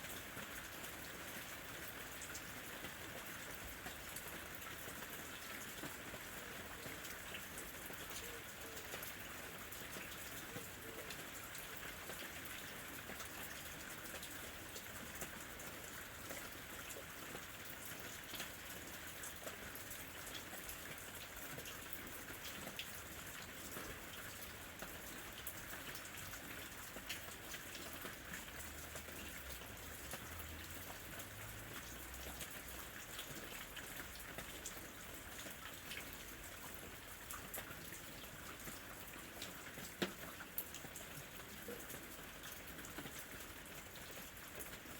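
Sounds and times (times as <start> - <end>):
rain pattering on leaves: 0.0 - 44.9.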